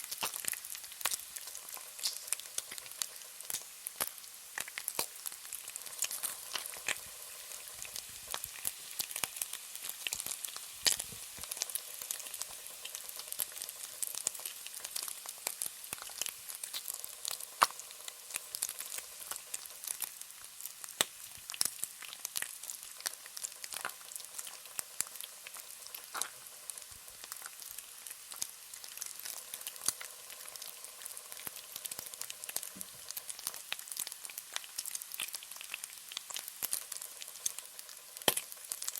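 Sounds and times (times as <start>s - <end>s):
bacon sizzling in a pan: 0.0s - 38.9s
fat crackling and popping: 0.0s - 38.9s.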